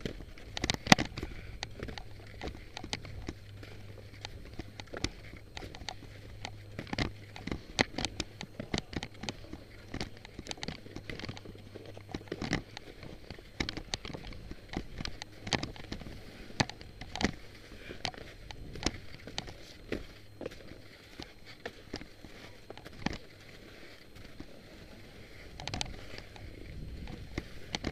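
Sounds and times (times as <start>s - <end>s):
low steady hum: 0.0s - 27.9s
skis chattering over snow: 0.0s - 27.9s.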